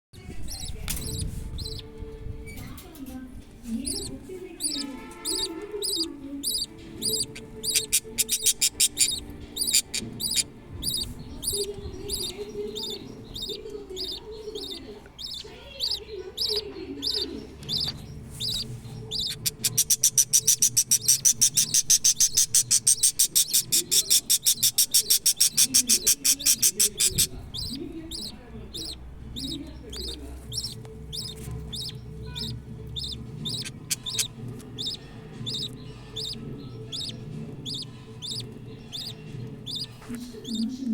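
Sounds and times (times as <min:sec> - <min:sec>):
budgerigars chirping: 0:00.4 - 0:02.6, 0:03.7 - 0:40.9.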